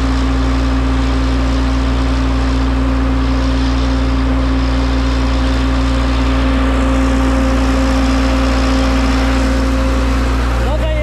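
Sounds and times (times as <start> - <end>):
irrigation pump engine droning: 0.0 - 11.0.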